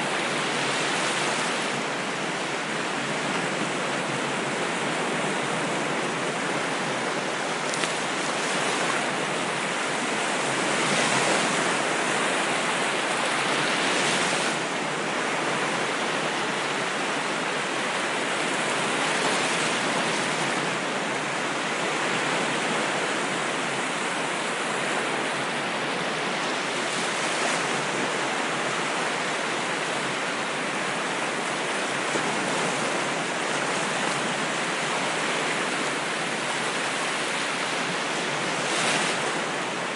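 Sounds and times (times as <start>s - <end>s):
ocean waves on shore: 0.0s - 39.9s.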